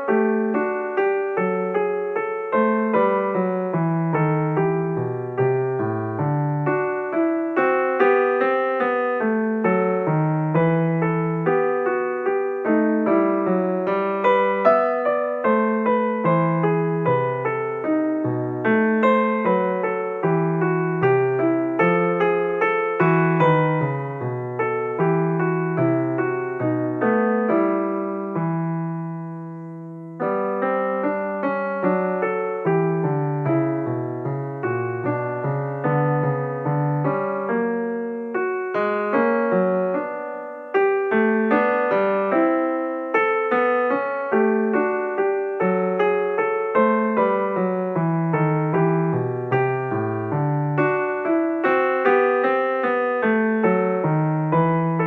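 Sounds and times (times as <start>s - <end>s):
solo piano playing: 0.0s - 55.0s.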